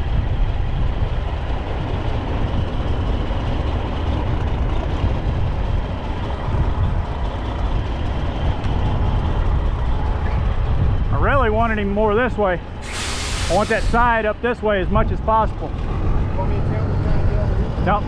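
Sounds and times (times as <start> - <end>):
wind buffeting microphone: 0.0 - 18.0
truck diesel engine running: 1.1 - 10.2, 11.2 - 17.9.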